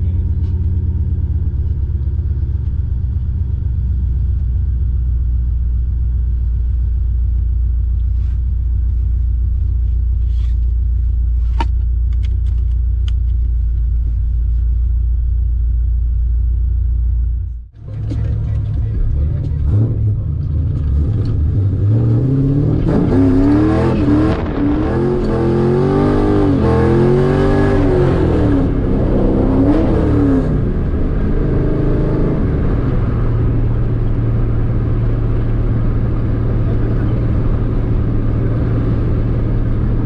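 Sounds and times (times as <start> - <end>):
car engine from inside cabin: 0.0 - 40.0.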